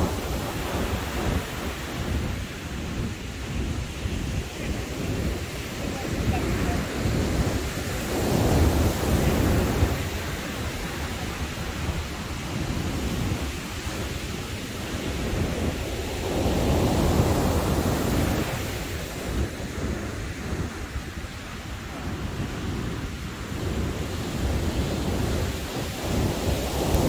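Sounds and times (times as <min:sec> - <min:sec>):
heavy surf breaking: 0:00.0 - 0:27.0
wind on microphone: 0:00.0 - 0:27.0.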